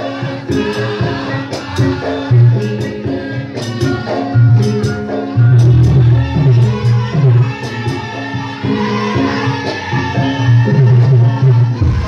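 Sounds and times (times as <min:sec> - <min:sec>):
gamelan metal melody: 0:00.0 - 0:12.0
sharp percussion strokes: 0:00.0 - 0:12.0.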